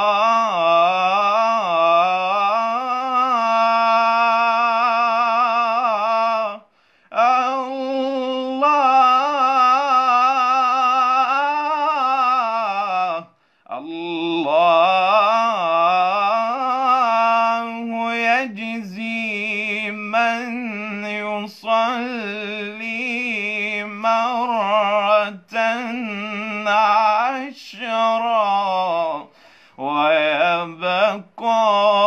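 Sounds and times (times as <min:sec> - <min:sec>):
man chanting unaccompanied: 0:00.0 - 0:32.0.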